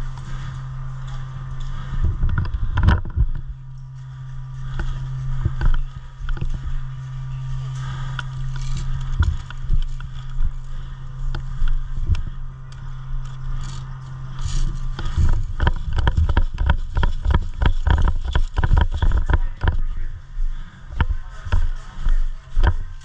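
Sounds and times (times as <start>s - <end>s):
rustling movement: 0.0s - 23.0s
steady low hum: 0.0s - 23.0s.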